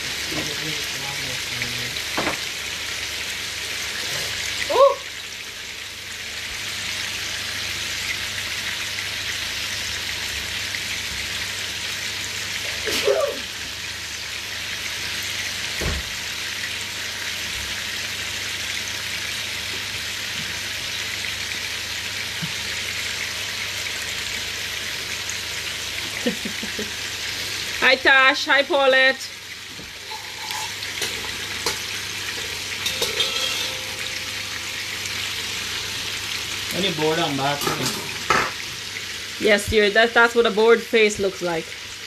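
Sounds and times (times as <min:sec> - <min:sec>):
chicken sizzling in a pan: 0:00.0 - 0:42.0.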